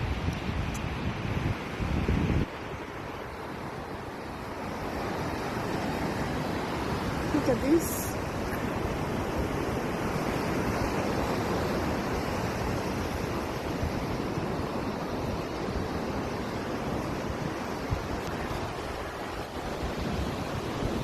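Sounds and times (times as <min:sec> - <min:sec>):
sea surf washing on shore: 0:00.0 - 0:21.0
wind rumble on microphone: 0:00.0 - 0:21.0.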